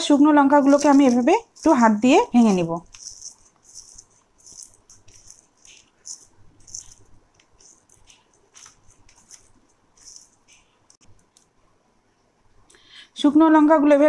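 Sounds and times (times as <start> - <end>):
dried chillies crackling: 0.0 - 11.5.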